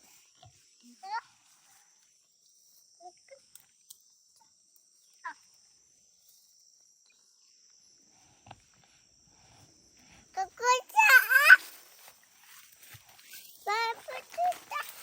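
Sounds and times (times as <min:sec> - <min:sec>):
faint chirps: 0:00.0 - 0:15.0.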